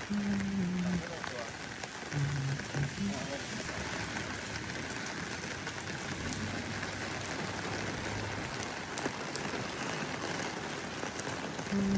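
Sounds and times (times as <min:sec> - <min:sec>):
rain drop ticks: 0:00.0 - 0:11.9
steady rainfall hiss: 0:00.0 - 0:11.9.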